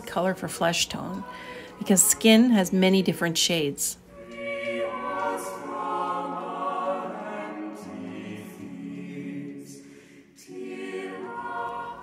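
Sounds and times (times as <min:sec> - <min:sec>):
choir singing long chords: 0:00.7 - 0:02.7, 0:04.1 - 0:12.0.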